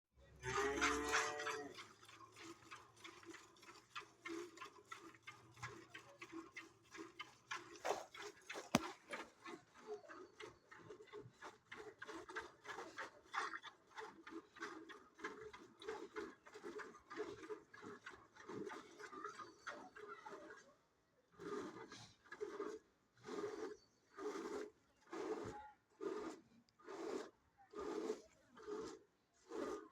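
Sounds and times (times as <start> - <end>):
cow chewing and crunching feed: 0.3 - 20.7, 21.3 - 29.9.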